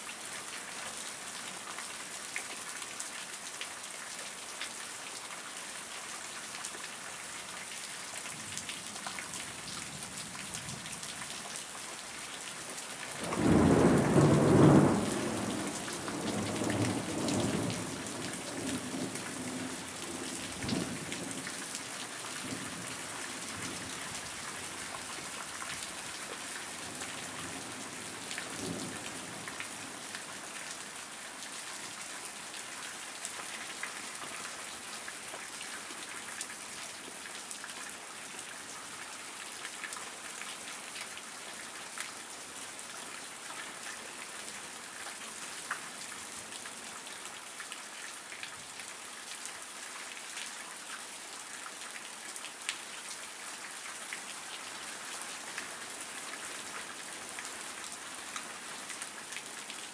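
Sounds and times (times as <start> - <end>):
rain falling on grass and pavement: 0.0 - 59.9.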